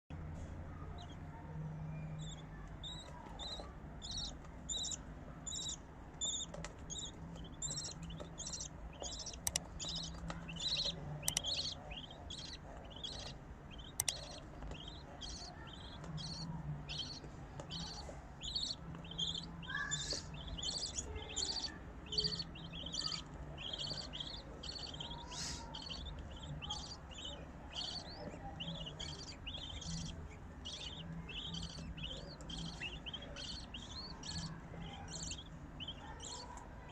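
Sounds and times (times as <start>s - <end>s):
chicks cheeping: 0.4s - 36.9s.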